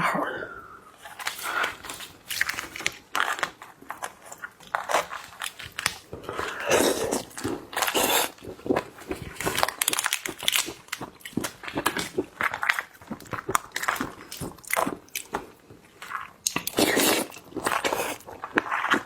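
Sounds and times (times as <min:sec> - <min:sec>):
shrimp shell crunching: 0:01.0 - 0:19.0.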